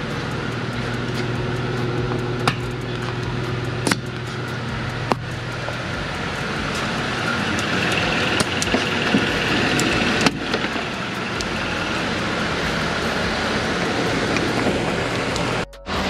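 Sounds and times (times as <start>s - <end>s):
sharp clicks of air hoses: 0.0s - 15.7s
steady mechanical noise: 0.0s - 16.0s.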